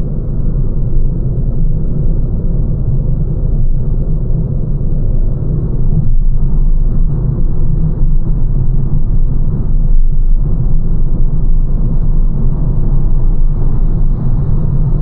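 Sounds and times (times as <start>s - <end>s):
car interior road and tyre noise: 0.0s - 15.0s.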